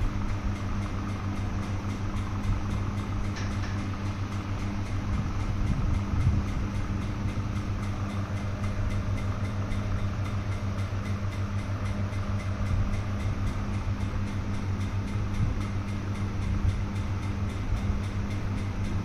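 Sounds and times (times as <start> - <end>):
autoclave mechanical hum: 0.0 - 19.0.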